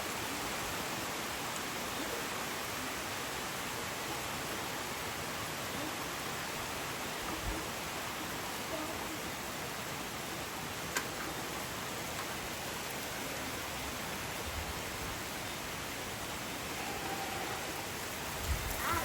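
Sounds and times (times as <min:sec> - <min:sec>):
rain and wind rushing: 0:00.0 - 0:19.0.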